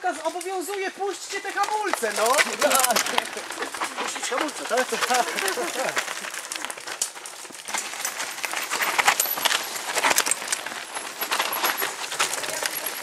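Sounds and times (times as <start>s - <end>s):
mountain bikes rattling over rocks: 0.0s - 13.0s.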